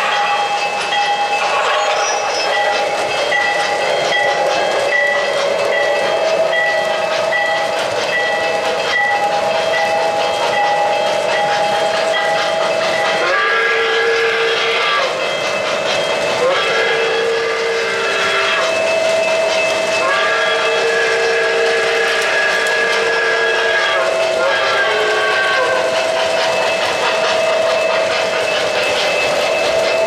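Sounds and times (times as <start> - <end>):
steam chime whistle: 0.0 - 30.0
steam engine running beat: 0.0 - 30.0.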